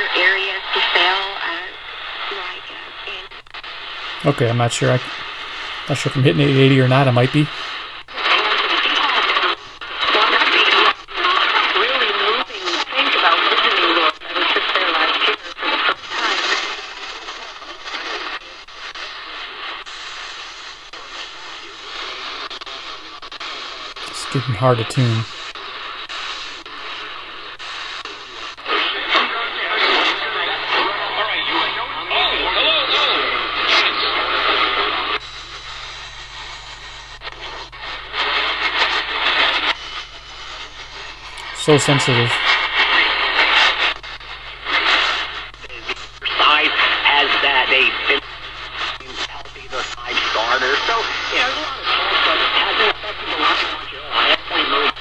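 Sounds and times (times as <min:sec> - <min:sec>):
radio static and hiss: 0:00.0 - 0:55.0.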